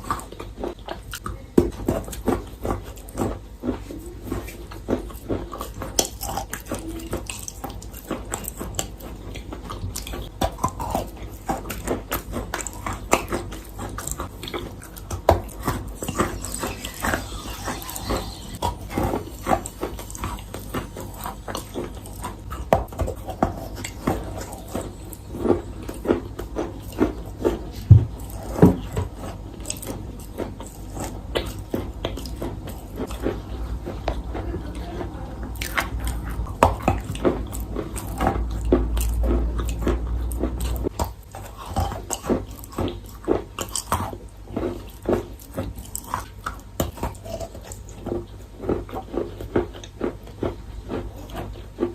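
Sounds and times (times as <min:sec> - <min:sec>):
chewing chalk crunches: 0:00.0 - 0:51.9.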